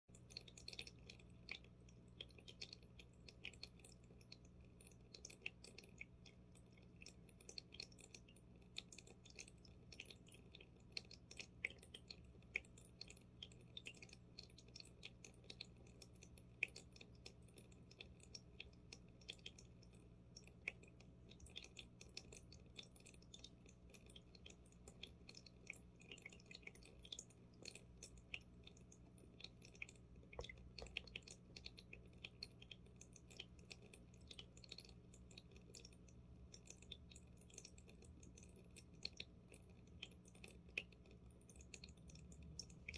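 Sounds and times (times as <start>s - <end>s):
water and bubbles crackling: 0.0s - 42.9s
aquarium filter humming: 0.1s - 42.9s.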